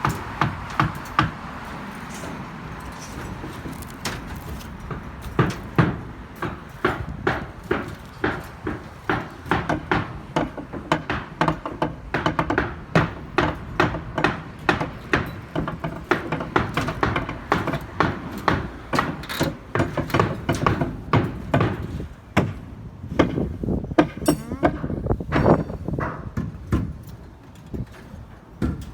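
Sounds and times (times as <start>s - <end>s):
knocking and thudding: 3.1s - 27.2s.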